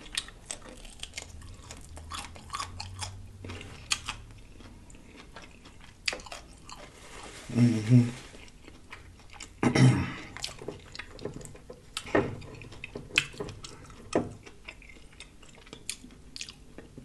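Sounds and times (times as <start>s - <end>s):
chewing with wet lip smacks: 0.0s - 6.9s, 8.5s - 9.6s, 10.3s - 17.0s.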